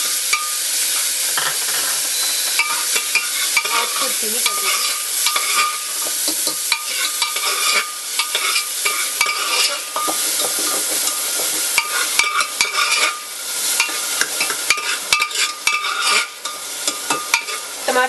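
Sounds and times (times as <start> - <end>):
tomatoes sizzling in hot oil: 0.0 - 18.0
steel spoon scraping a pot: 1.4 - 11.2, 11.8 - 17.8.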